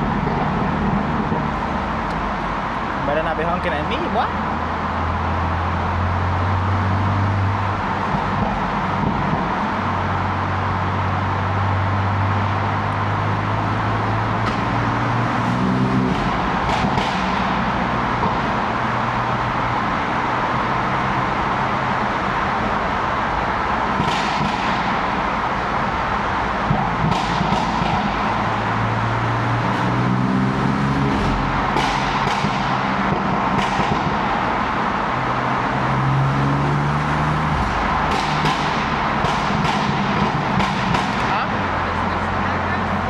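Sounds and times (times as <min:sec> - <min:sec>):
car engine droning: 0:00.0 - 0:43.0
road noise: 0:00.0 - 0:43.0.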